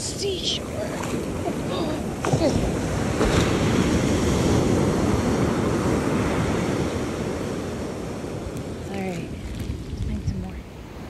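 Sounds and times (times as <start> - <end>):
wind buffeting microphone: 0.0 - 11.0
wave breaking on beach: 0.2 - 11.0.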